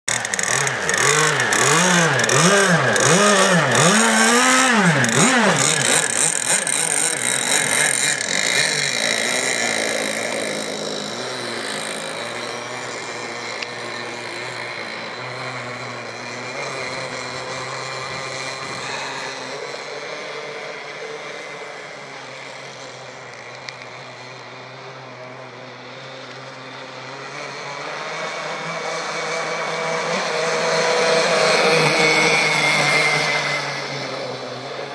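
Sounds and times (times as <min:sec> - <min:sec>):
two-stroke boat engine revving: 0:00.0 - 0:34.9.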